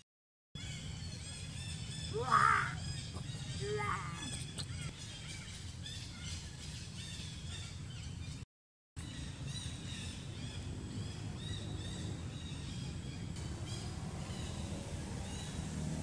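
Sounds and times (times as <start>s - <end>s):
small birds chirping: 0.6s - 8.4s, 9.0s - 16.0s.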